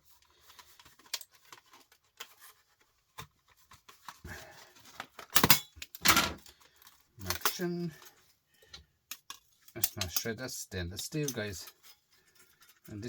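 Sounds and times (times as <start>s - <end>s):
plastic parts clicking and rustling: 0.0s - 13.0s.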